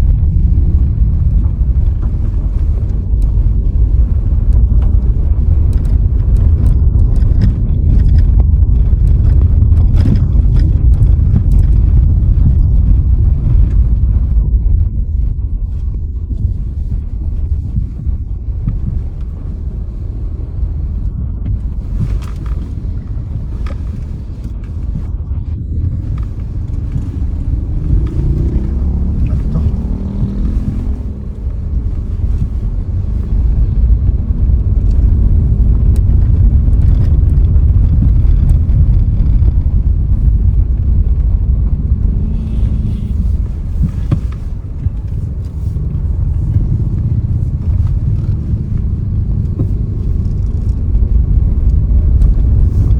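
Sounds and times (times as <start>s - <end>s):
car driving on road: 0.0s - 52.9s.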